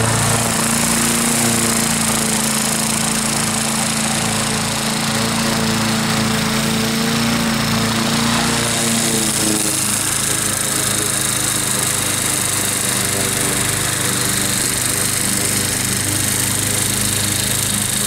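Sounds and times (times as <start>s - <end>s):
mower blade cutting wet grass: 0.0s - 18.0s
ride-on mower engine running: 0.0s - 18.0s.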